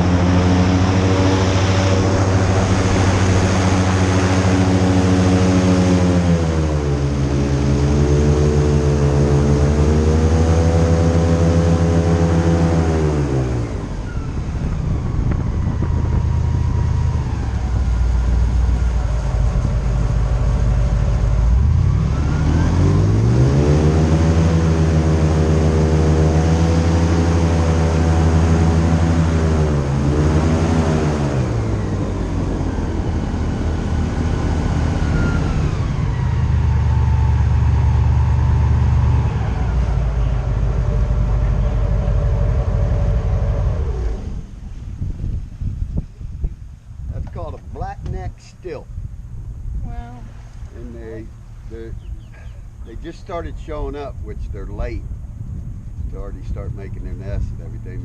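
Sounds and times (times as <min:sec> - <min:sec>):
airboat engine and propeller: 0:00.0 - 0:58.0.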